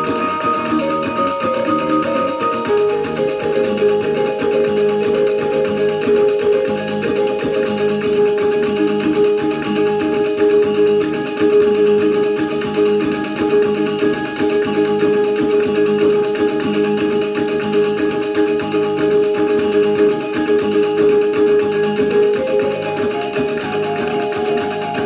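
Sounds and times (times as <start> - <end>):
sustained ringing gong tone: 0.0 - 25.0.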